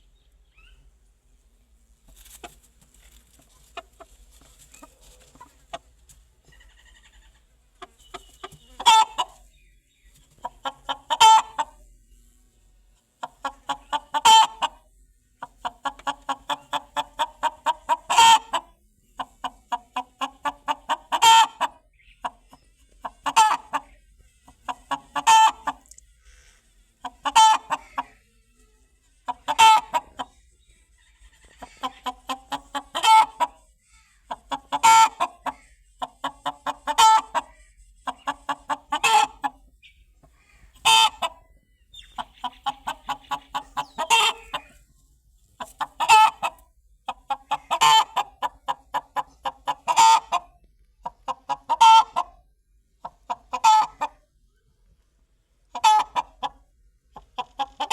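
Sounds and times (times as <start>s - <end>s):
chicken cackling: 2.2s - 12.0s, 13.2s - 54.6s, 55.4s - 57.9s.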